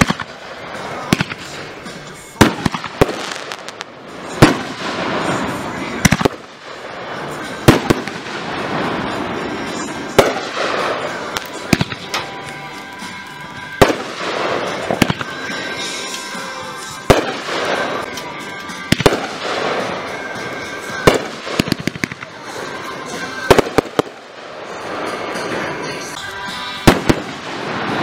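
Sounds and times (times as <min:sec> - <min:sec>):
fireworks bangs: 0:00.0 - 0:28.0
fireworks popping: 0:00.0 - 0:28.0.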